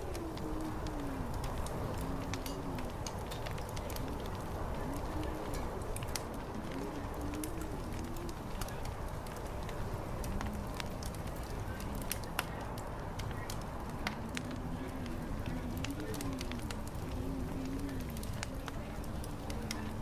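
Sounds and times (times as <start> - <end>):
fire crackling and popping: 0.0 - 20.0
low wind rumble: 0.0 - 20.0
wavering murmur: 0.0 - 20.0.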